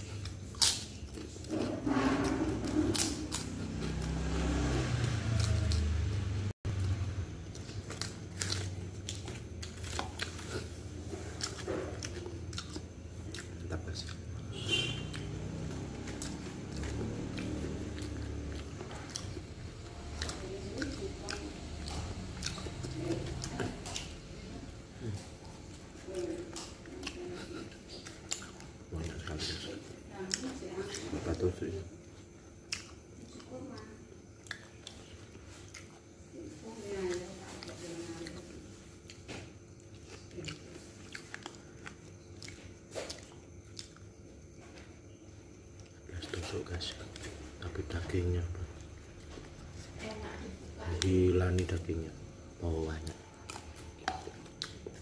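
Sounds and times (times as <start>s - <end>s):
person chewing food: 0.0s - 36.3s, 38.3s - 50.0s, 51.0s - 55.0s.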